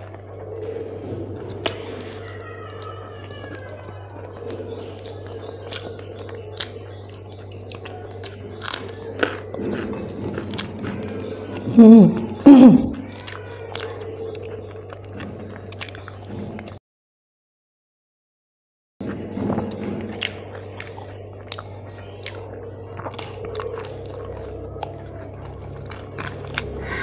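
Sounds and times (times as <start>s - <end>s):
chewing crisp food: 0.0s - 16.8s, 19.0s - 27.0s.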